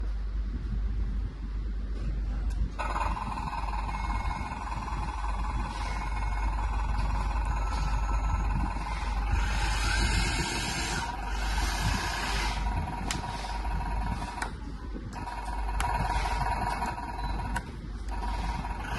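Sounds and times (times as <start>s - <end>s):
toy bulldozer electric whine: 2.8s - 14.5s, 15.2s - 18.9s.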